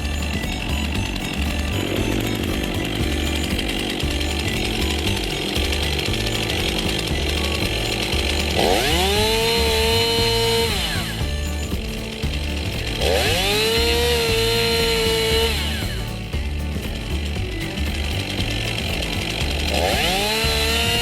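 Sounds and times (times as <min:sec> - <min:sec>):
chainsaw cutting a log: 0:00.0 - 0:21.0.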